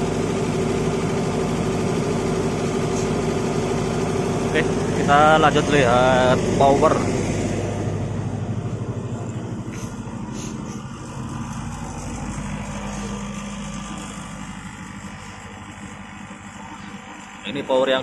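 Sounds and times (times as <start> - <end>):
generator engine humming: 0.0 - 18.0.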